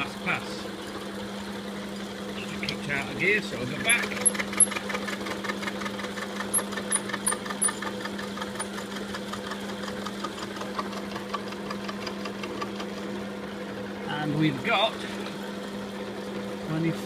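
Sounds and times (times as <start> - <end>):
milling machine motor hum: 0.0 - 17.0.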